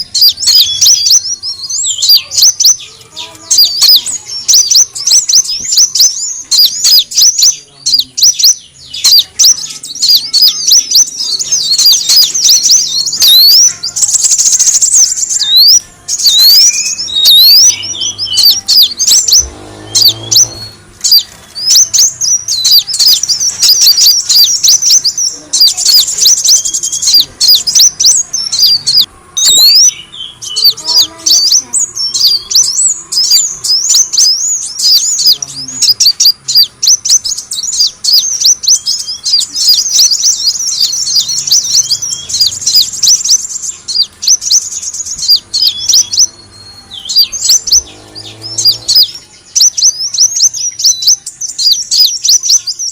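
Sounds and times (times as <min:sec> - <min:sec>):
bird chirping and twittering: 0:00.0 - 0:52.9.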